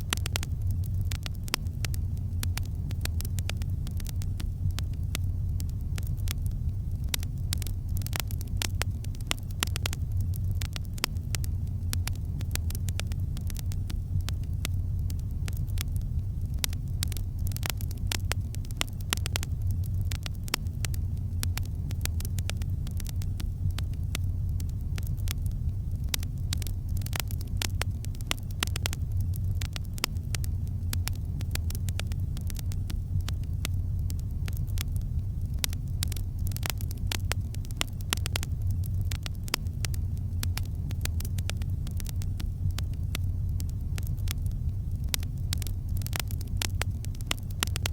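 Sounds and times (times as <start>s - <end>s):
campfire crackling and popping: 0.0s - 47.9s
low rumble of burning fire: 0.0s - 47.9s.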